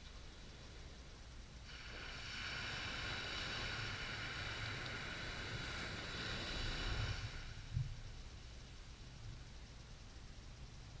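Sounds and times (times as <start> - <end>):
wave hissing up the shore: 0.0 - 9.1
low rumble of sea: 0.0 - 11.0
wind: 0.0 - 11.0.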